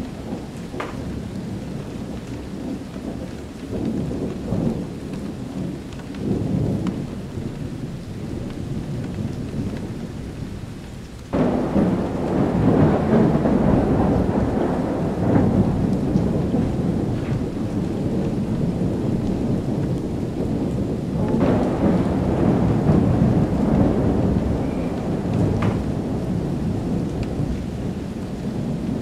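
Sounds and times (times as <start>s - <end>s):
loud thunderclap: 0.0s - 9.9s, 11.3s - 29.0s
rolling thunder: 0.0s - 29.0s
steady rain: 0.0s - 29.0s.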